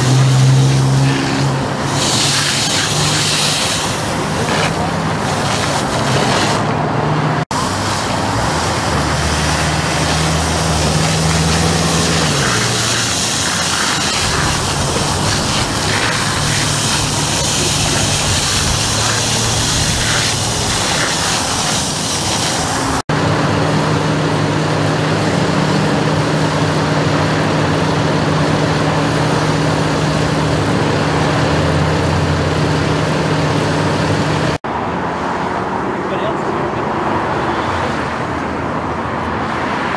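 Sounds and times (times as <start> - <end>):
fire engine engine droning: 0.0 - 37.0
freeway traffic: 0.0 - 39.9.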